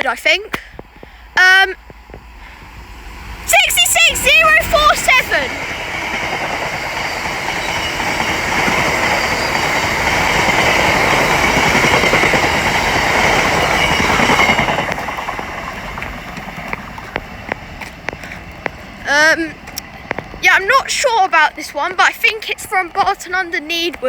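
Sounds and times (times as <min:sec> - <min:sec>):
freight train wagons rolling past: 0:00.0 - 0:24.0
wheels clattering over rail joints: 0:00.0 - 0:24.0
high ring from train wheels: 0:01.2 - 0:23.2.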